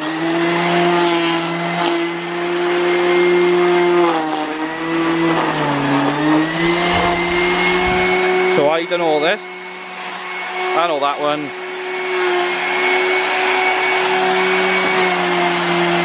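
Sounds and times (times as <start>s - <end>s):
electric grass trimmer whining: 0.0s - 16.0s.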